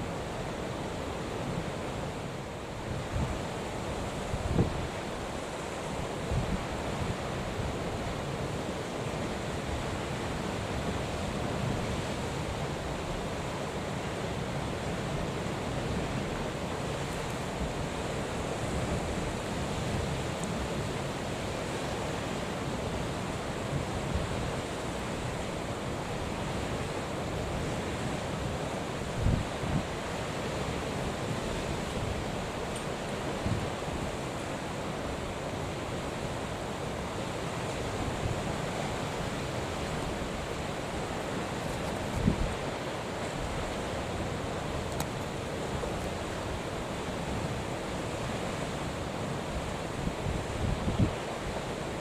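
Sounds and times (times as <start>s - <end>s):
sea surf: 0.0s - 52.0s.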